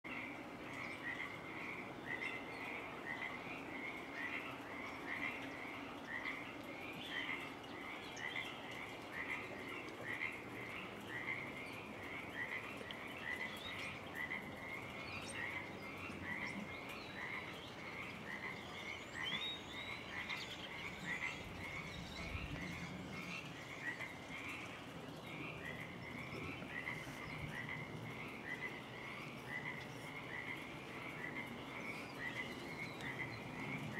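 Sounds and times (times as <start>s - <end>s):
frogs calling: 0.1s - 33.9s.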